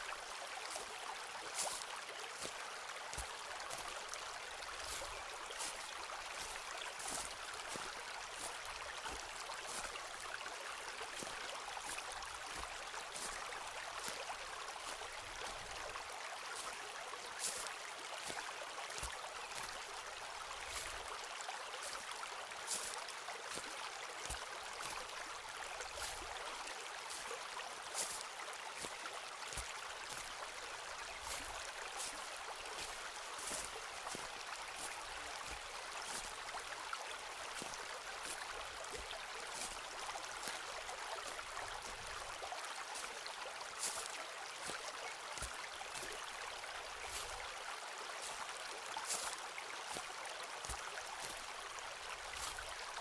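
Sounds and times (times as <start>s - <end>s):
stream rushing: 0.0s - 53.0s
footsteps crunching on path: 0.6s - 4.0s, 4.6s - 10.3s, 11.2s - 15.8s, 17.4s - 19.8s, 20.6s - 21.1s, 22.7s - 25.1s, 25.9s - 26.4s, 27.1s - 27.3s, 27.9s - 28.2s, 28.8s - 36.7s, 37.5s - 47.5s, 48.2s - 53.0s.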